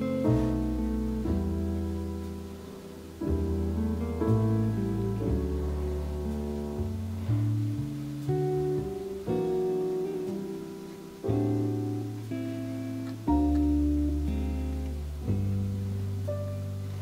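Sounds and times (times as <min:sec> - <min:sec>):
slow plucked guitar music: 0:00.0 - 0:17.0.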